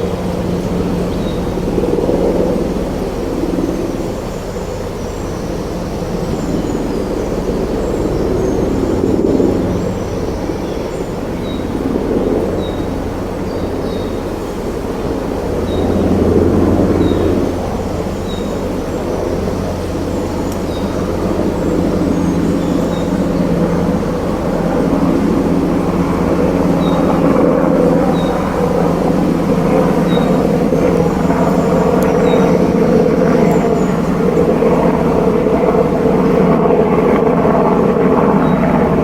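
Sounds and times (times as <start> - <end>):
loud rushing outdoor drone: 0.0 - 39.0.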